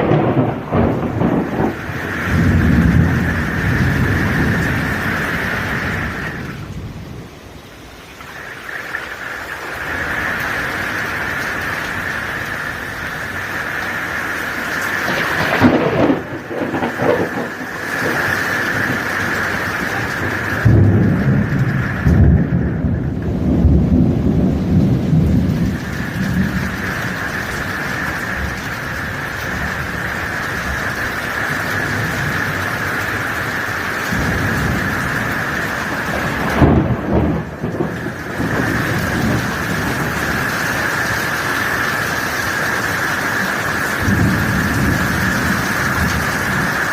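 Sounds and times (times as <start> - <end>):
thunder rumbling: 0.0 - 7.6, 8.5 - 46.9
heavy rain falling: 0.0 - 46.9.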